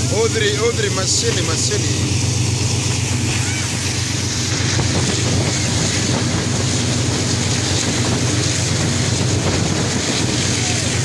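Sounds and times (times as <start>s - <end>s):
diesel locomotive engine drone: 0.0s - 11.0s
rushing of fast-moving train: 0.0s - 11.0s.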